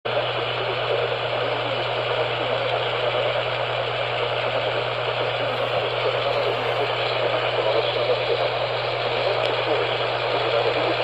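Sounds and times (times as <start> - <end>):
radio static hiss: 0.1 - 11.0.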